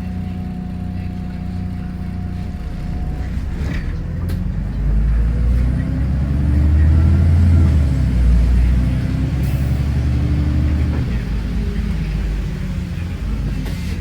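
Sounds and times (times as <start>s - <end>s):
large vehicle engine droning: 0.0s - 14.0s.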